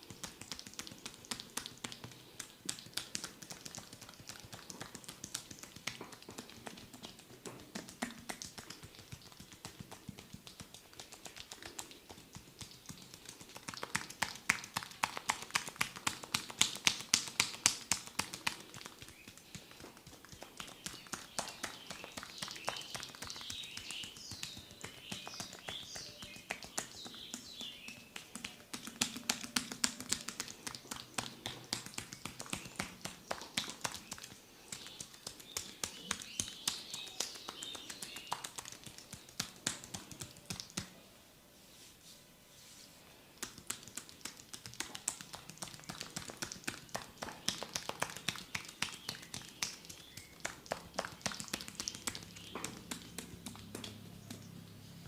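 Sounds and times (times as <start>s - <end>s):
percussive massage tapping: 0.0s - 41.0s, 43.4s - 54.6s.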